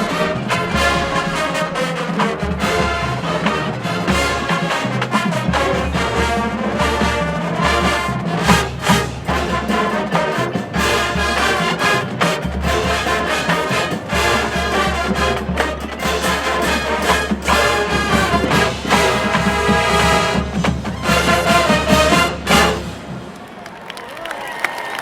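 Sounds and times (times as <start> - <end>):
brass band playing: 0.0 - 23.7.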